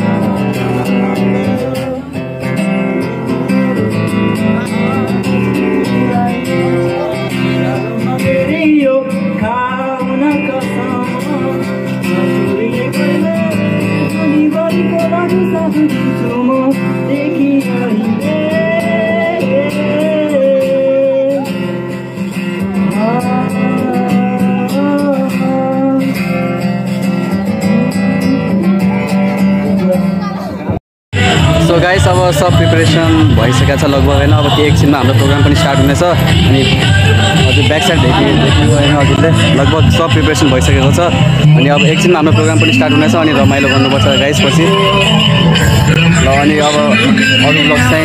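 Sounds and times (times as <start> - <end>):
acoustic guitar strumming: 0.0 - 48.0
young man singing: 0.0 - 48.0.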